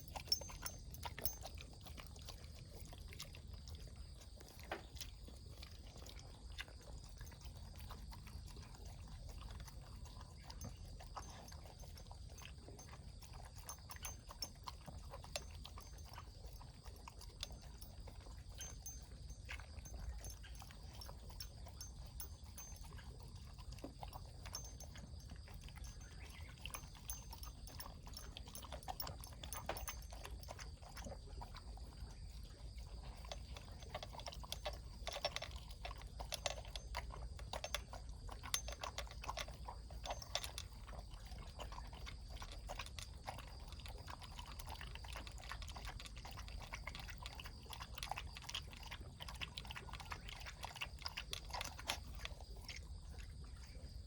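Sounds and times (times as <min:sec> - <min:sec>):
pet chewing crunchy food: 0:00.0 - 0:54.0.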